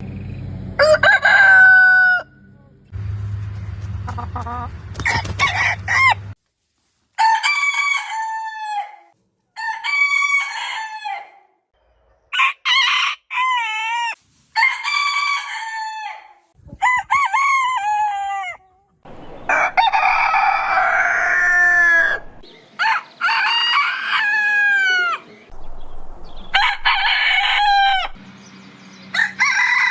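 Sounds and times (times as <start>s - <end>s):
roosters crowing: 0.7s - 2.5s, 5.0s - 6.4s, 7.2s - 11.4s, 12.3s - 28.3s, 28.9s - 29.9s.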